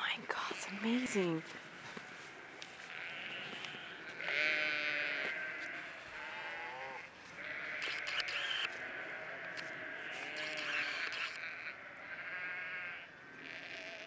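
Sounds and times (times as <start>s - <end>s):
sheep bleating: 0.5s - 14.0s.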